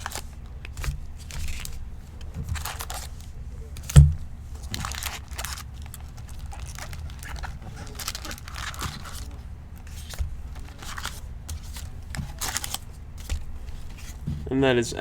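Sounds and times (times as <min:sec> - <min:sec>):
foil packs and cardboard rustling: 0:00.0 - 0:14.6.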